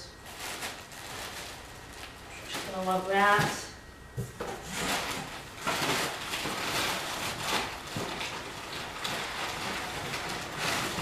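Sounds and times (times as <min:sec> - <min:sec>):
packing material rustling: 0:00.2 - 0:03.5, 0:04.6 - 0:11.0.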